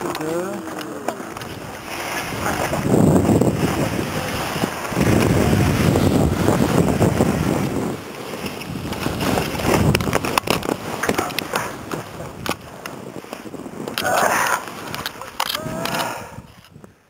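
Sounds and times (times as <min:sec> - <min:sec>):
snow and equipment knocking: 0:00.0 - 0:15.4
wind noise on microphone: 0:00.0 - 0:17.0
camera scraping into snow: 0:01.2 - 0:16.8.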